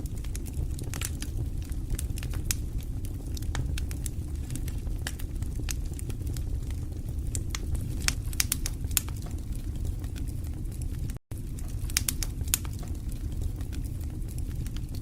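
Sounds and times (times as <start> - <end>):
fire flames burning: 0.0 - 15.0
wood crackling and popping: 0.0 - 15.0.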